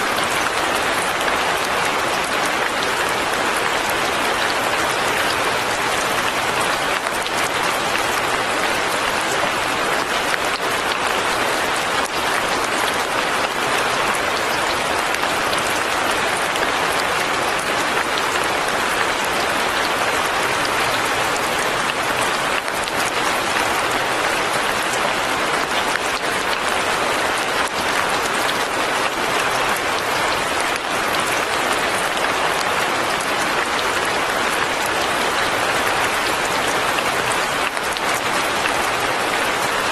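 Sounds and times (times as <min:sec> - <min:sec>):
rain on leaves and roof: 0:00.0 - 0:39.9.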